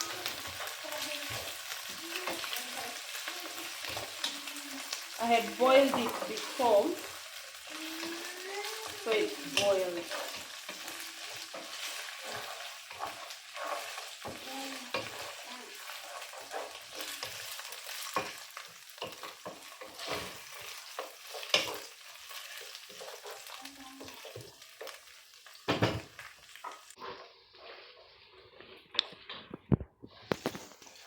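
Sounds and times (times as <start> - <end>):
utensil scraping a pan: 0.0 - 25.0, 26.2 - 31.0
meat sizzling in a pan: 0.0 - 29.2.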